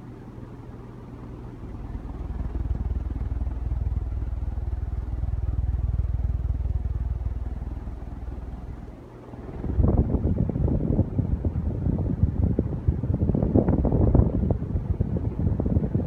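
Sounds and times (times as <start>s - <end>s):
ceiling fan draught buffeting microphone: 0.0s - 16.0s.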